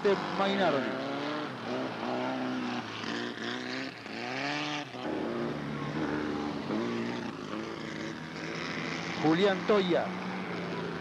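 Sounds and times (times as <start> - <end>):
race car engines at full throttle: 0.0 - 11.0.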